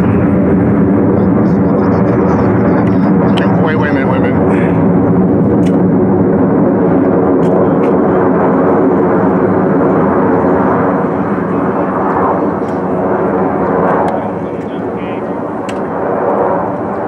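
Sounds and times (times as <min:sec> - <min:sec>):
jet engines flying overhead: 0:00.0 - 0:17.0.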